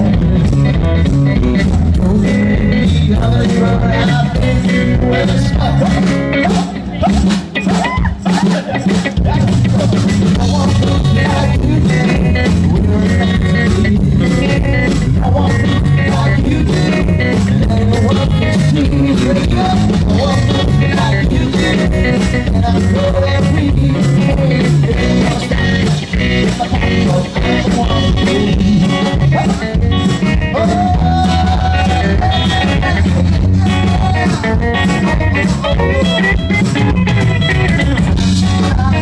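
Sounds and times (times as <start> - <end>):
live band playing pop-rock: 0.0 - 39.0.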